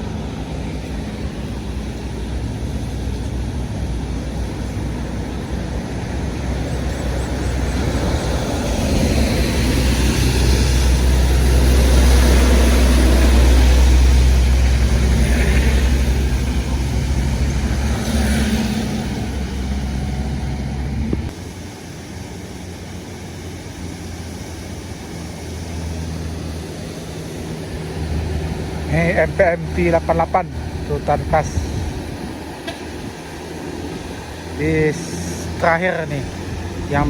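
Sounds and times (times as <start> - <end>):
heavy vehicle engine rumble: 0.0 - 37.0.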